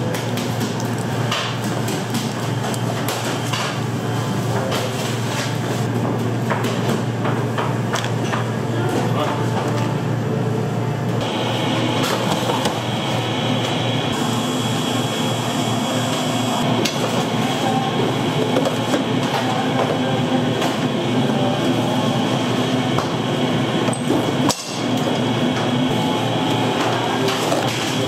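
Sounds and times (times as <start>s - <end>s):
high machine whine: 0.0s - 28.0s.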